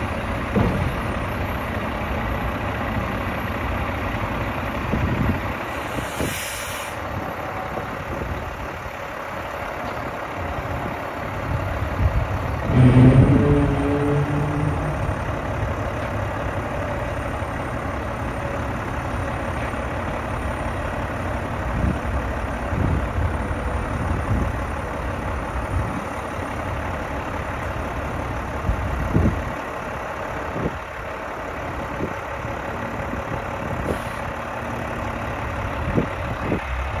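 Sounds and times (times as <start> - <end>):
diesel truck engine idling: 0.0 - 6.1, 6.9 - 37.0.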